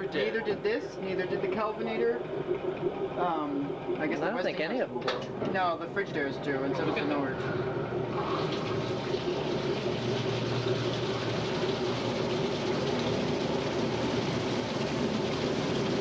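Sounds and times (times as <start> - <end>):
spinning tub rushing: 0.0 - 16.0
washing machine motor hum: 0.0 - 16.0.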